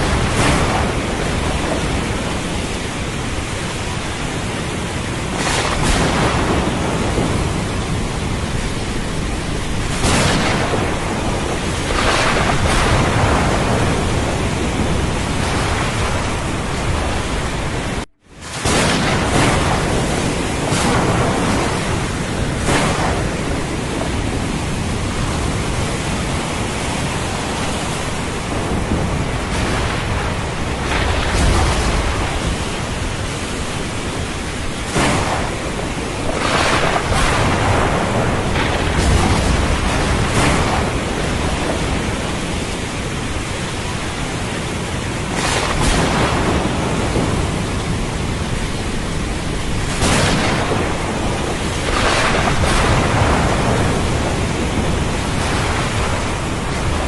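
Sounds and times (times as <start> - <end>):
heavy rain: 0.0 - 57.0
low rolling thunder: 0.0 - 57.0
surf: 0.0 - 57.0.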